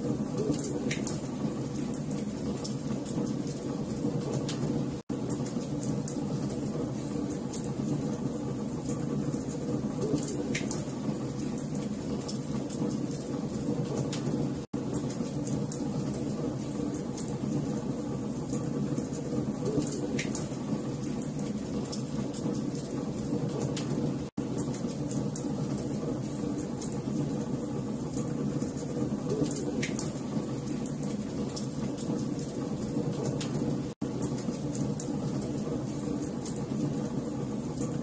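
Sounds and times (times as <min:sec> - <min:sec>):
low rumble of fire: 0:00.0 - 0:38.0.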